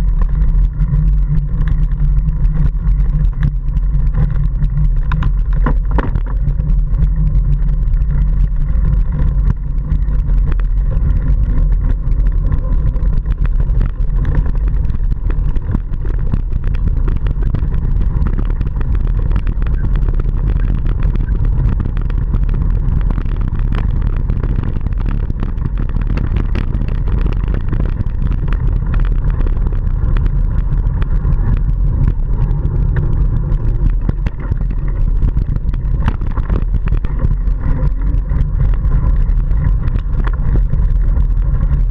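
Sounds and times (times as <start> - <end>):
wind rumbling on microphone: 0.0 - 41.9
bike knocks and rattles: 2.5 - 41.9.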